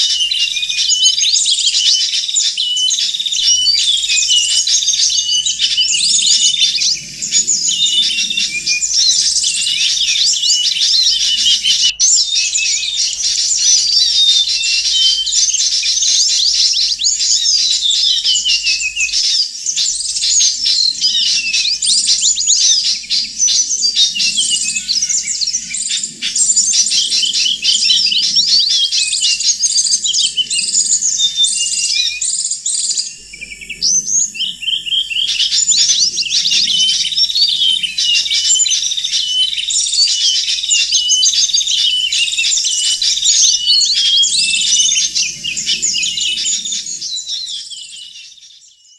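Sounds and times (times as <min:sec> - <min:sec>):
songbird chorus chirping: 0:00.0 - 0:48.9.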